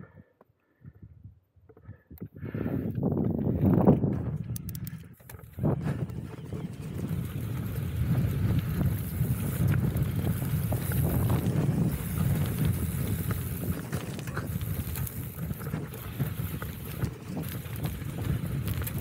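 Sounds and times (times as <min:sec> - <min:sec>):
wind rumbling on microphone: 0:00.0 - 0:19.0
bike tyres rolling over dirt: 0:02.5 - 0:19.0
bike knocks and rattles: 0:03.2 - 0:19.0.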